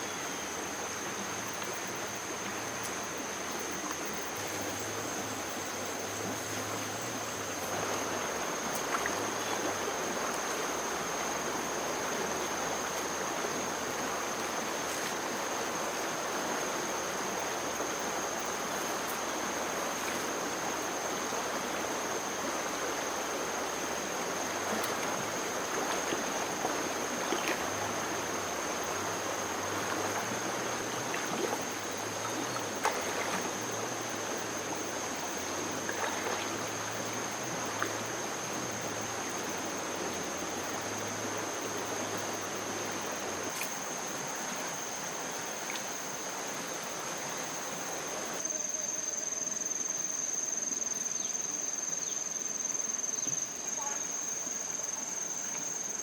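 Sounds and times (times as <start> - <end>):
flowing water: 0.0 - 56.0
high insect drone: 0.0 - 56.0.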